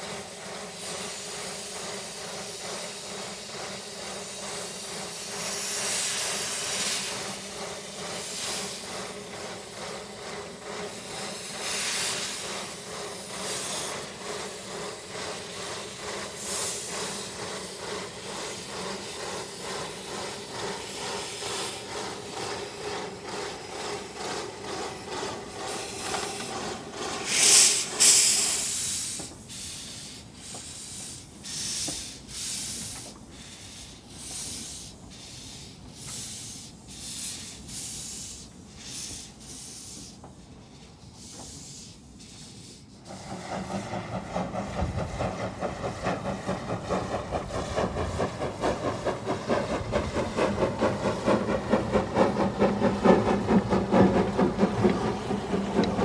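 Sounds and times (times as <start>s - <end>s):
steam hissing: 0.0s - 56.0s
steam locomotive exhaust chuffs: 0.0s - 56.0s.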